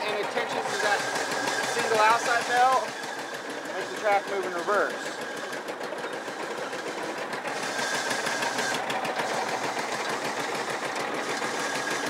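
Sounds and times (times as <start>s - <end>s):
small engine running: 0.0s - 12.0s
track drive rattle: 0.0s - 12.0s.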